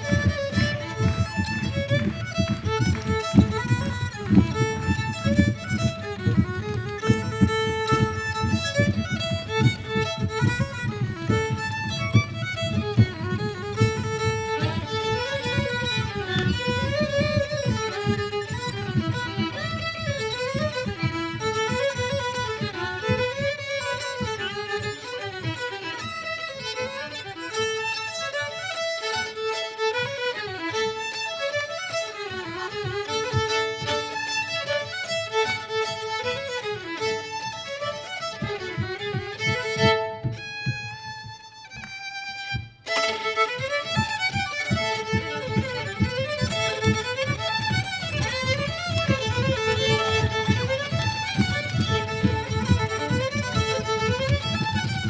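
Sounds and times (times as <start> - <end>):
violin duet: 0.0 - 55.0.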